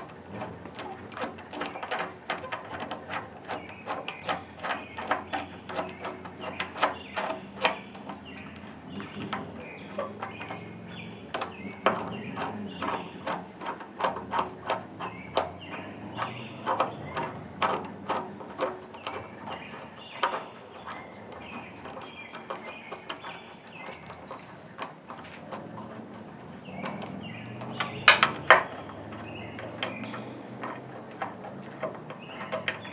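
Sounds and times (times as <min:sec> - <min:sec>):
metal parts clanking: 0:00.0 - 0:32.9.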